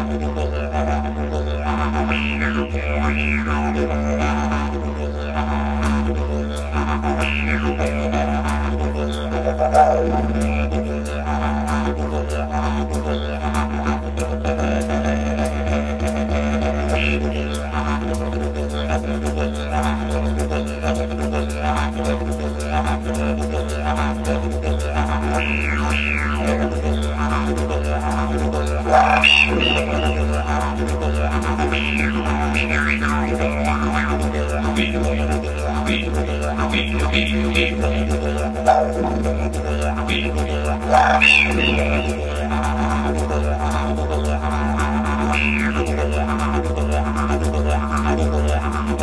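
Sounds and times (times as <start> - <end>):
didgeridoo drone: 0.0 - 49.0
higher didgeridoo calls: 0.0 - 49.0.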